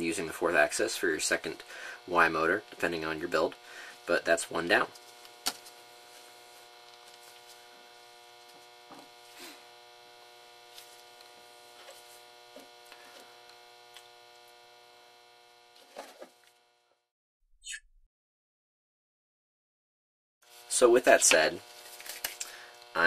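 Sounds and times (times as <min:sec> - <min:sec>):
electrical mains hum: 0:00.0 - 0:17.1, 0:20.4 - 0:23.0.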